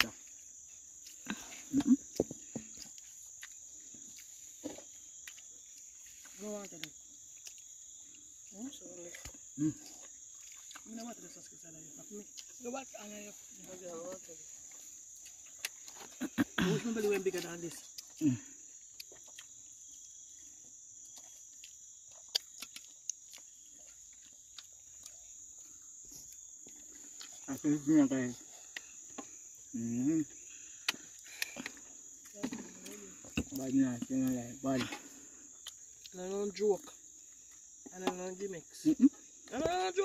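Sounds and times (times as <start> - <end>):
crickets chirping: 0.0 - 40.0
night insects droning: 0.0 - 40.0.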